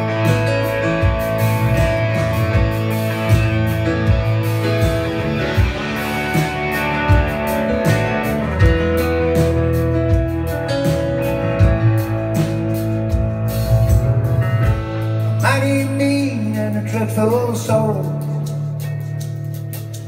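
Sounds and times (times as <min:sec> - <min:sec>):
bending lead guitar line: 0:00.0 - 0:20.0
rock band playing: 0:00.0 - 0:20.0.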